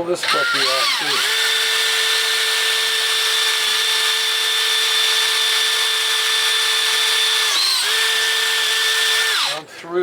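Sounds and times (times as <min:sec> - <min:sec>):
electric drill whining: 0:00.2 - 0:09.7.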